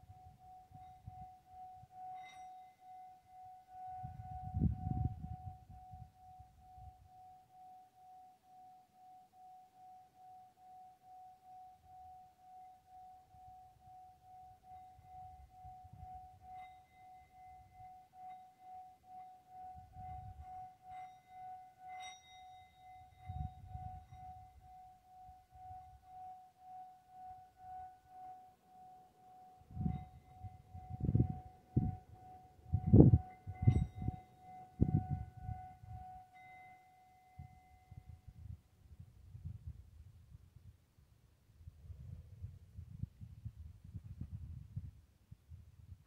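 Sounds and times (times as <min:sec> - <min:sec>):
singing bowl ringing tone: 0:00.0 - 0:38.8.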